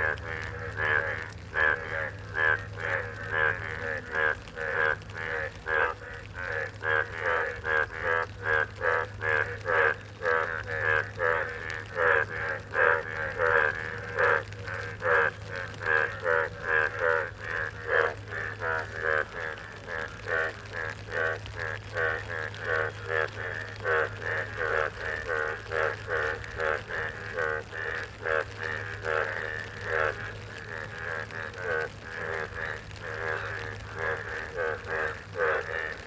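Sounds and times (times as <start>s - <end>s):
frogs croaking: 0.0s - 36.0s.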